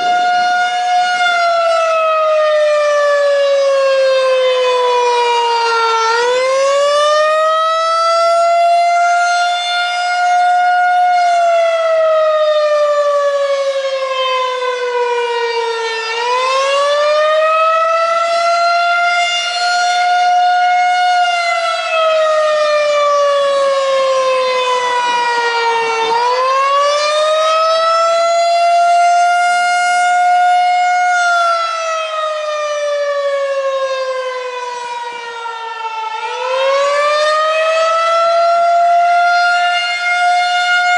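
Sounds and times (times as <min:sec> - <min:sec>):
outdoor warning siren wailing: 0:00.0 - 0:40.9.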